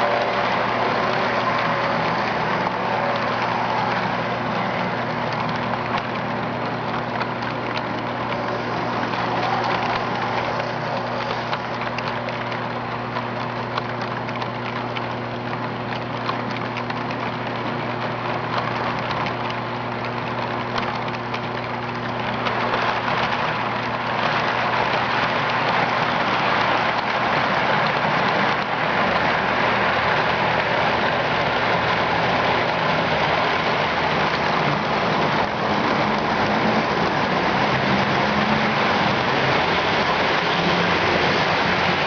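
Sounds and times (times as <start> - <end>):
model train wheels clicking on rails: 0.0 - 42.0.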